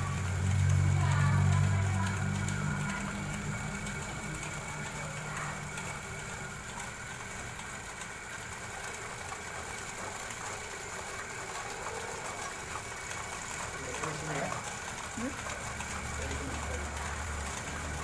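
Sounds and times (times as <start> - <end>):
machine motor running: 0.0 - 18.0.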